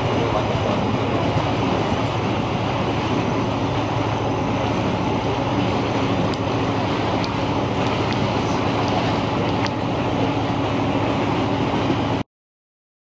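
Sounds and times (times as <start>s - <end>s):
boat engine running: 0.0s - 12.2s
water rushing past hull: 0.0s - 12.2s.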